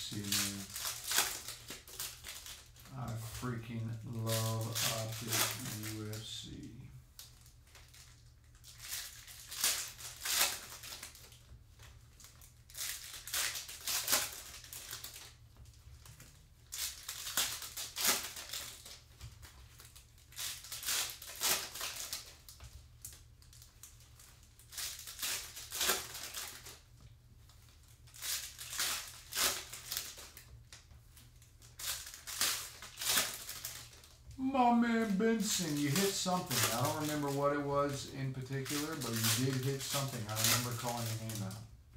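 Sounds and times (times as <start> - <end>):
foil wrappers crinkling: 0.0 - 41.7.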